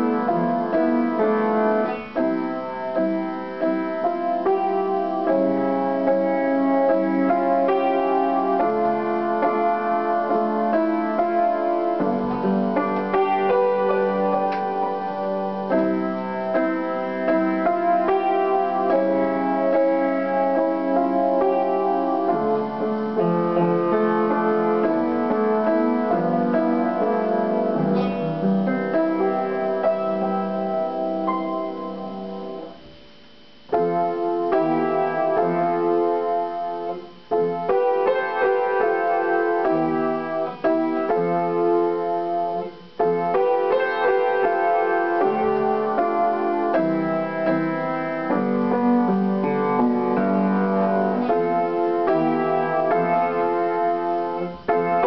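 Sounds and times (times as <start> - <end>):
upright piano playing: 0.0 - 55.0.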